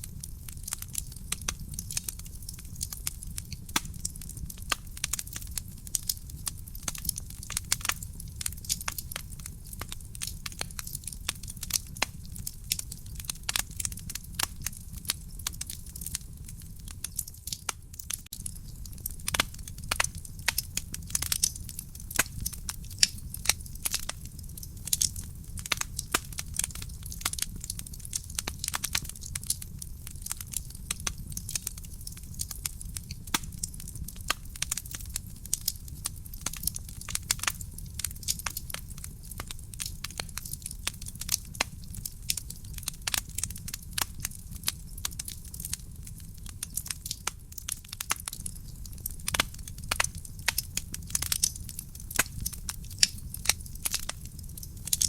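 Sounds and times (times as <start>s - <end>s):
burning logs crackling and popping: 0.0s - 55.0s
low rumble of flames: 0.0s - 55.0s.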